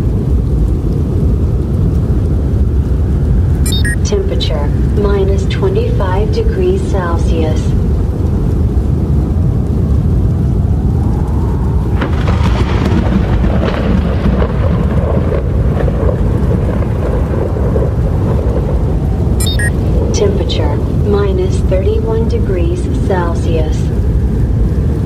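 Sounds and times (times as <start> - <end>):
strong blizzard wind: 0.0 - 25.0.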